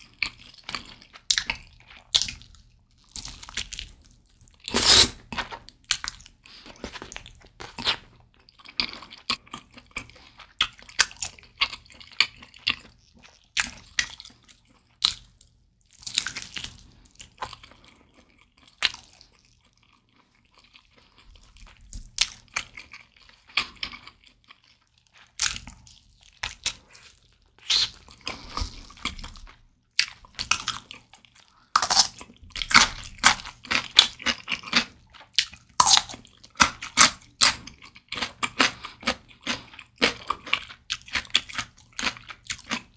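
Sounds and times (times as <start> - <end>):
chewing and biting chicken: 0.0 - 42.9.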